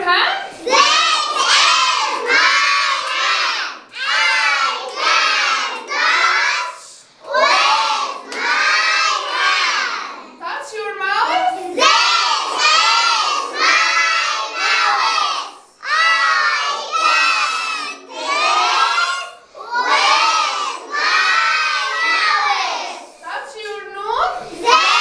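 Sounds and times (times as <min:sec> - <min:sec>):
children chanting in unison: 0:00.4 - 0:10.4, 0:11.5 - 0:23.2, 0:24.3 - 0:25.0.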